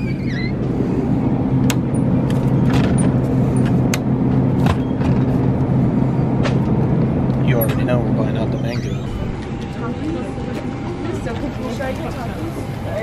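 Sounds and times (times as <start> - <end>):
drinks cooler compressor hum: 0.0 - 13.0.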